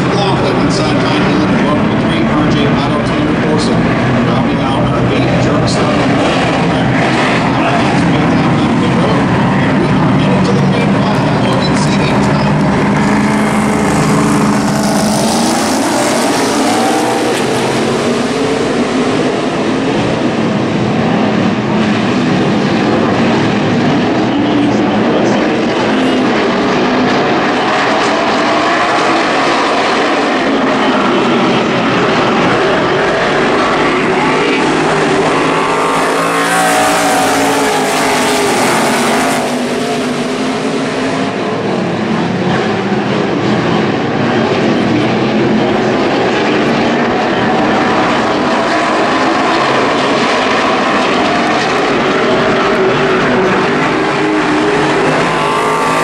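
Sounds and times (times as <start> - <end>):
race truck engines blaring: 0.0 - 56.0.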